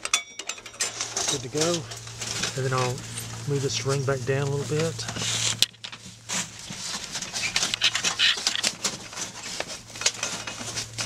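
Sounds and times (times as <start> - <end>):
dry leaves rustling: 0.8 - 11.0
metal sheet scraping: 0.9 - 11.0.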